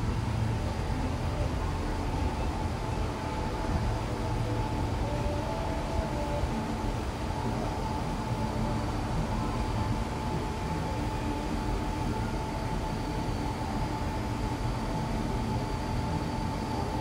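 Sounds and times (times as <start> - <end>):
cable car cabin rushing hum: 0.0 - 17.0
thin constant whine: 0.0 - 17.0.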